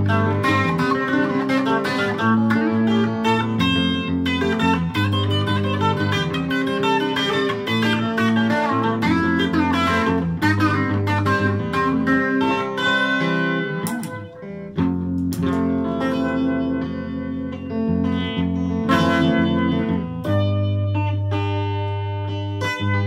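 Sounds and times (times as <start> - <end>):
electric guitar melody: 0.0 - 23.0.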